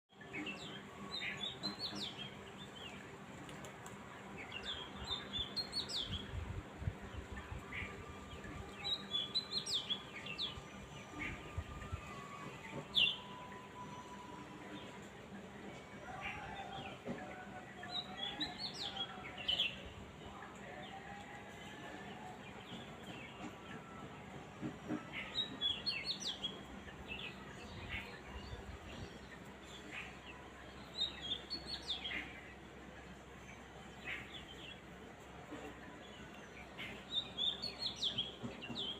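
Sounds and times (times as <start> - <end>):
songbird chirping: 0.1 - 38.9.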